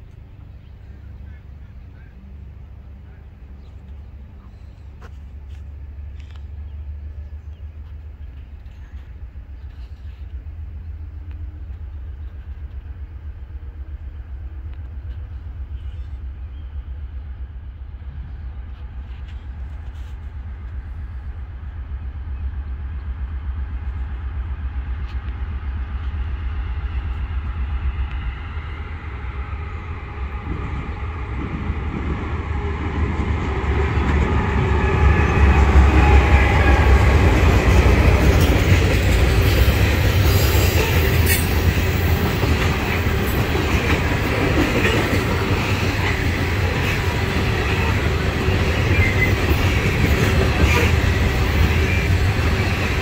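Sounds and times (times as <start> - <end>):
diesel locomotives passing: 0.0 - 53.0
train wheel rumble: 0.0 - 53.0.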